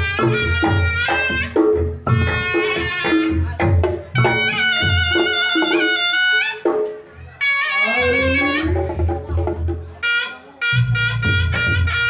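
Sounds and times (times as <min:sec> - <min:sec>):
nasal reed trumpet notes: 0:00.0 - 0:09.0, 0:10.0 - 0:12.0.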